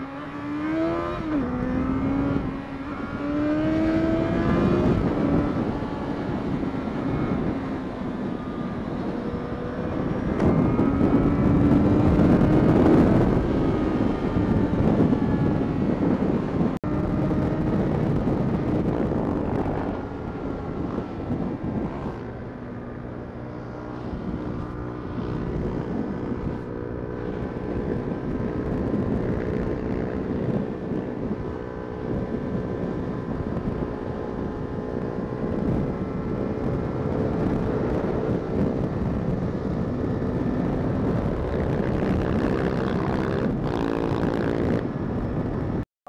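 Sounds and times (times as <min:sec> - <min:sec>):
motorcycle engine cruising: 0:00.0 - 0:45.8
wind and road noise: 0:00.0 - 0:45.9.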